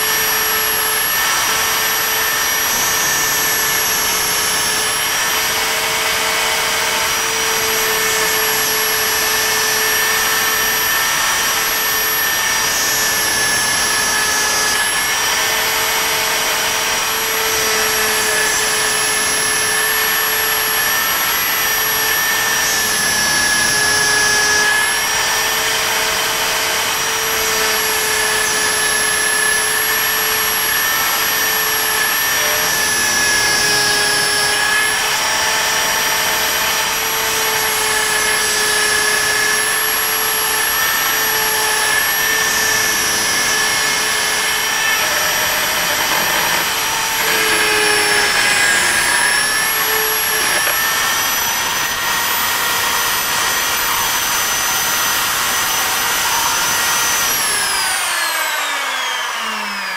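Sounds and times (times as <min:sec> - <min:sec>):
router whining while cutting wood: 0:00.0 - 0:59.9.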